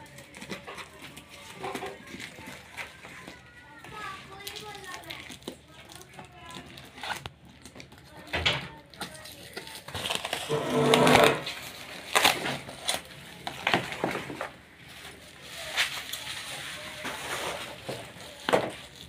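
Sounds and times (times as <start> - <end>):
plastic wrapping crinkling: 0.0 - 19.0.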